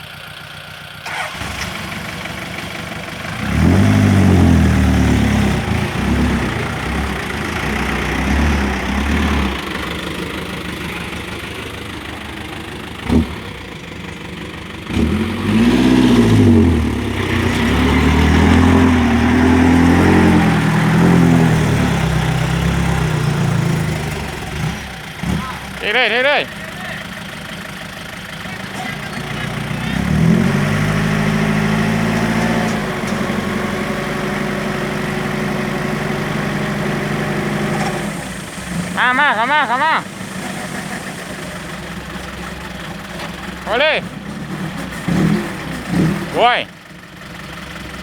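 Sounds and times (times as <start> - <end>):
tractor engine revving: 0.0 - 48.0.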